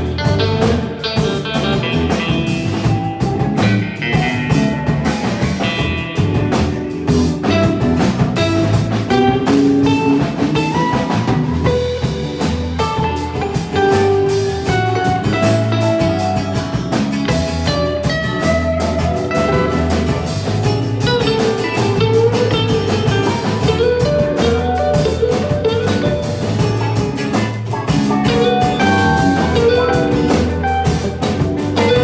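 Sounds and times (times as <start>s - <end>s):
bass and drum groove: 0.0s - 32.0s
guitars picking melodic lines: 0.0s - 32.0s.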